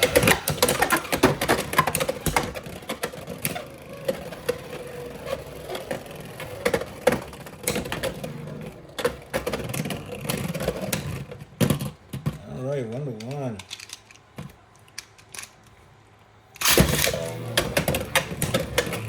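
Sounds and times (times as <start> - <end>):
faint spinning hum: 0.0 - 19.0.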